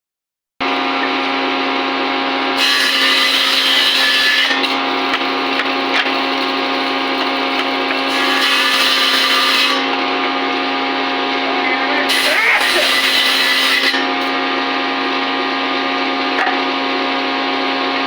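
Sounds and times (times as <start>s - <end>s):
power tool cutting wood: 0.9s - 18.0s.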